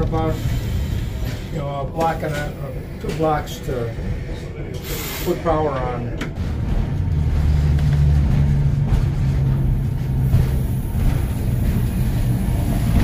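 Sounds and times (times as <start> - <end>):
streetcar hum and rumble: 0.0 - 13.0.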